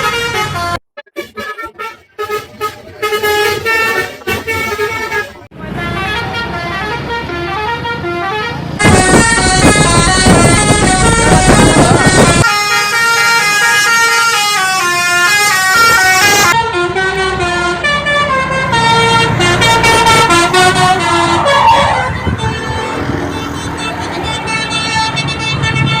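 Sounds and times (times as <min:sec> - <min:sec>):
musical bus horn playing a tune: 0:00.0 - 0:26.0.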